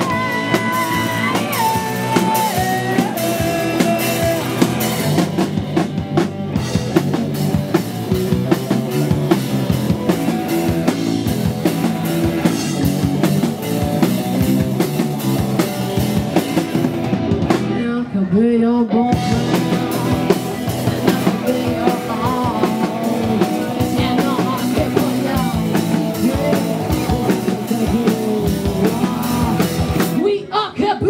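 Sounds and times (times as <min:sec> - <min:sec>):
punk rock band playing: 0:00.0 - 0:31.0.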